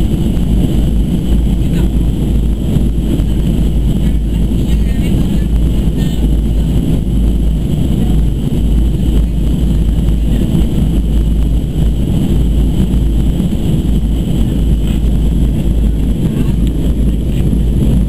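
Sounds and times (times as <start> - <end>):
airplane cabin engine roar: 0.0 - 18.0
rushing air: 0.0 - 18.0.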